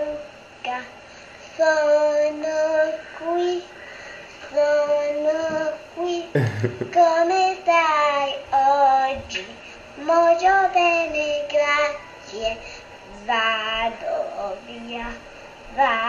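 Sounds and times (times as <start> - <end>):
boy singing: 0.0 - 0.9, 1.6 - 3.7, 4.4 - 16.0.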